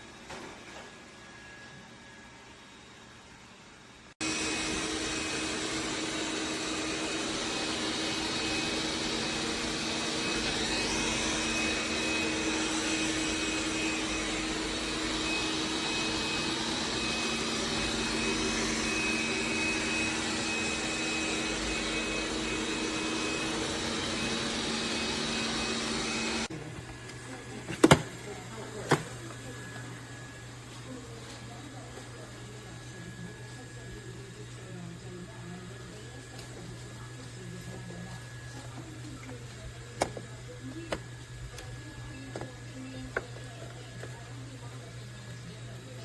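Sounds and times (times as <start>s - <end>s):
robot vacuum suction running: 4.2s - 46.0s.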